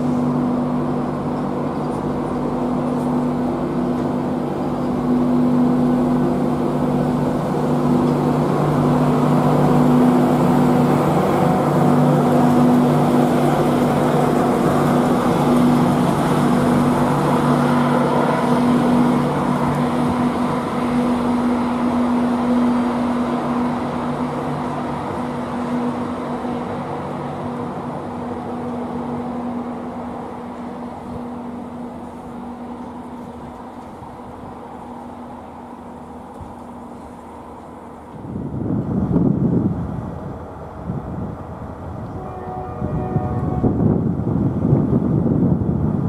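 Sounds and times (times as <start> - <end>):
train engine droning: 0.0 - 46.0.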